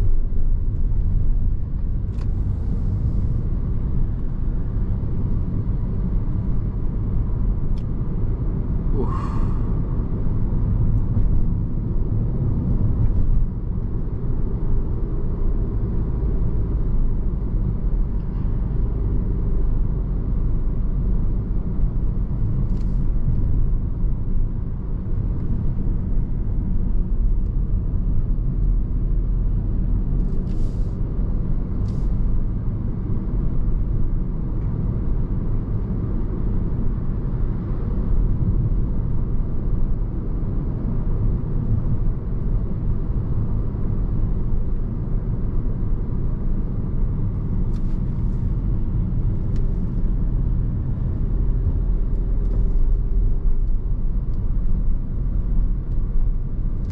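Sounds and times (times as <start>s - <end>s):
car road and engine rumble: 0.0s - 56.9s.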